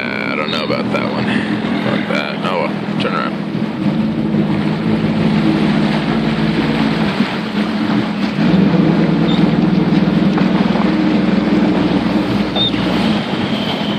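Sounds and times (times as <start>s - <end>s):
jet ski engine running: 0.0s - 13.9s.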